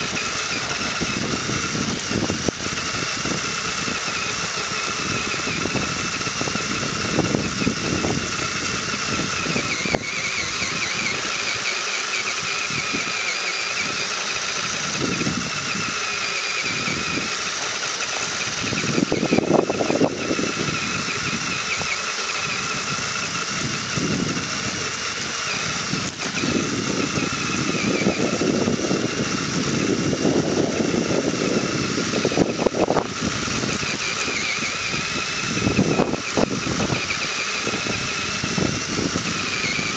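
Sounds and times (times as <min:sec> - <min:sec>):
electric motor and gearbox whining: 0:00.0 - 0:39.9.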